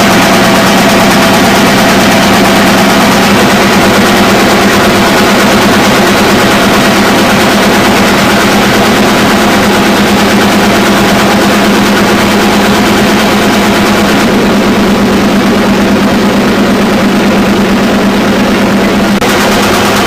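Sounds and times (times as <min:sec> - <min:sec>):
constant drone: 0:00.0 - 0:20.0
printing press hum and clatter: 0:00.0 - 0:20.0.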